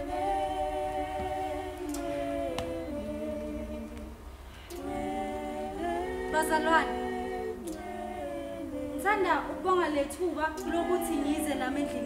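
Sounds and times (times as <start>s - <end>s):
voices humming a hymn: 0.0s - 12.0s.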